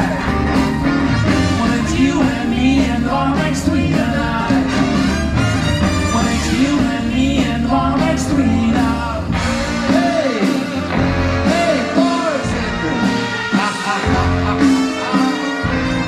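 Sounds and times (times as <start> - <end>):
swing band playing: 0.0 - 16.0
person singing with sliding notes: 1.3 - 5.2, 6.0 - 16.0.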